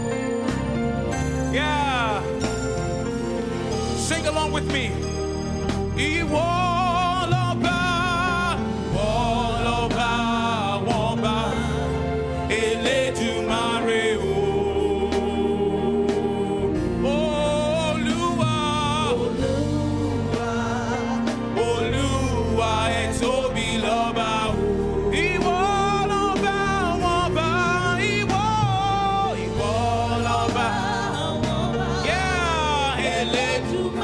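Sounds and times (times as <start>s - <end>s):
bass: 0.0s - 34.0s
gospel singing: 0.0s - 34.0s
keyboard chords: 0.0s - 34.0s.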